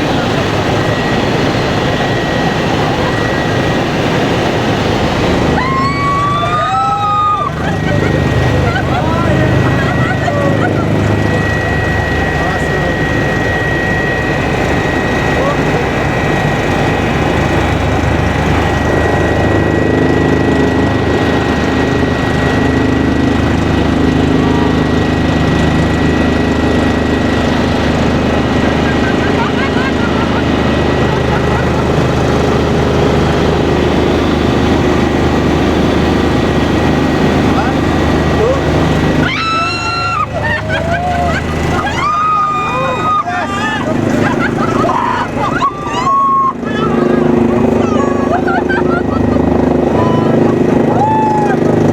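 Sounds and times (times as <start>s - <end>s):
helicopter rotor and turbine noise: 0.0s - 51.9s.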